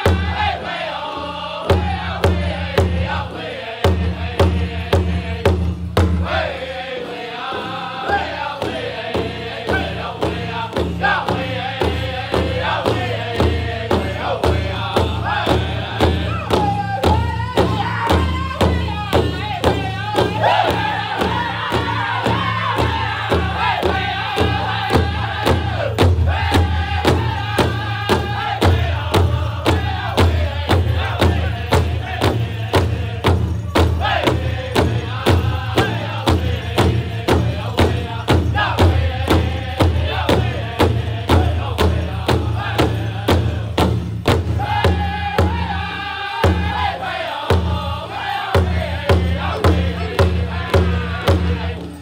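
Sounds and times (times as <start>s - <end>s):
large hide drum beating: 0.0s - 6.6s, 7.5s - 52.0s
group singing in high voices: 0.0s - 52.0s.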